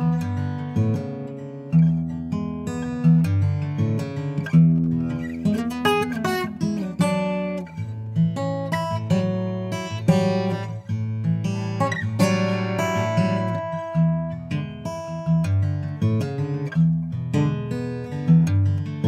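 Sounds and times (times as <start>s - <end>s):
fingerpicked acoustic guitar: 0.0s - 19.0s.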